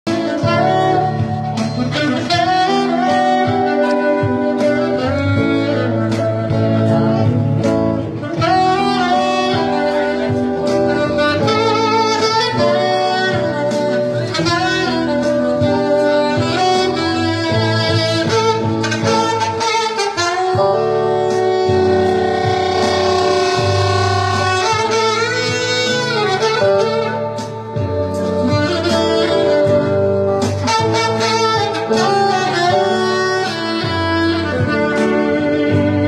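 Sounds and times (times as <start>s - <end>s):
live band accompaniment: 0.1s - 36.0s
saxophone melody: 0.1s - 36.0s
low bass line: 0.2s - 19.6s, 20.3s - 36.0s.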